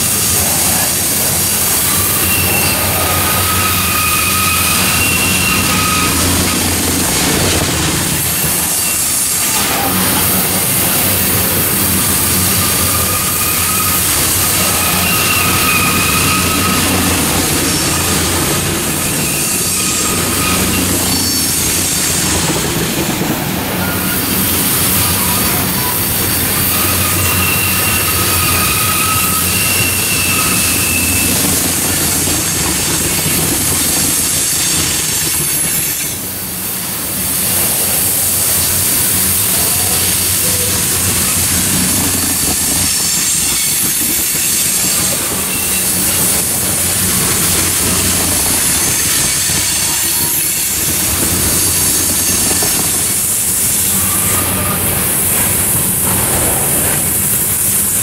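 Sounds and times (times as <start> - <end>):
high wheel squeal: 0.0 - 36.5, 37.1 - 58.0
train wheels rumbling on rails: 0.0 - 58.0.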